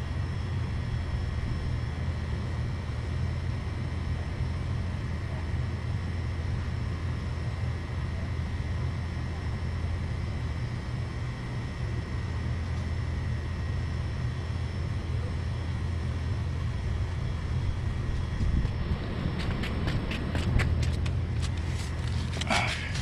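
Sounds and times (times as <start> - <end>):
faint high whine: 0.0 - 23.0
low mechanical drone: 0.0 - 23.0.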